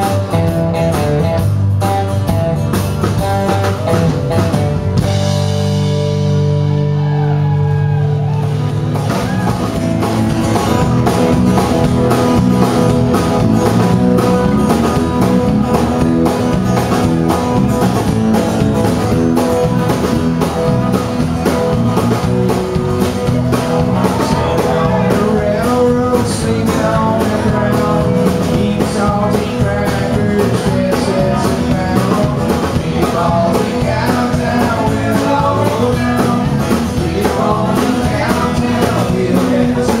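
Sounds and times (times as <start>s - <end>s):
acoustic guitar: 0.0s - 40.0s
drums playing steady beat: 0.0s - 40.0s
electric bass: 0.0s - 40.0s
electric guitar: 0.0s - 40.0s.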